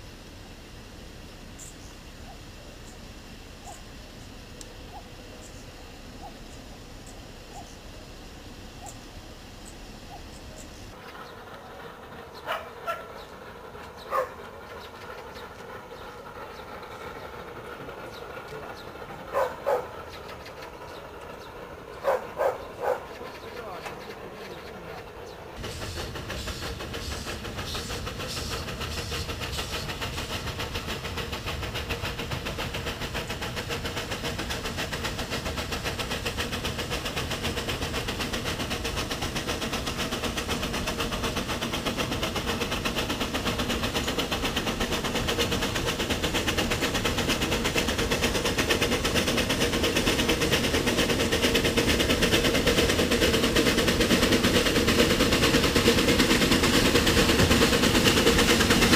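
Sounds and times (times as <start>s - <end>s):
steam locomotive exhaust beats: 0.0s - 58.9s.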